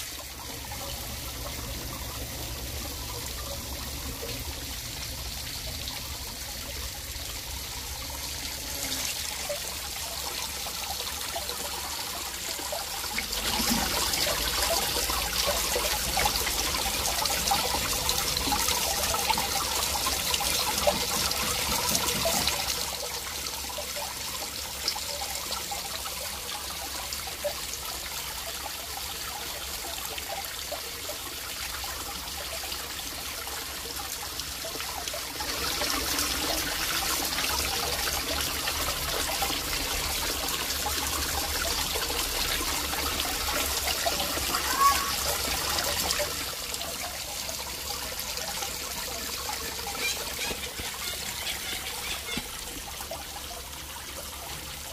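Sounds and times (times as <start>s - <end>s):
waterfall splashing over stone: 0.0s - 54.9s.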